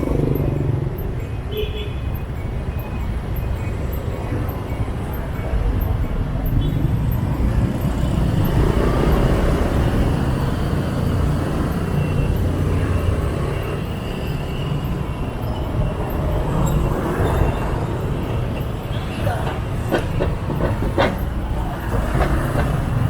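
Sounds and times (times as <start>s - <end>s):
motorbike and scooter engines: 0.0s - 23.0s
road and wind noise: 0.0s - 23.0s.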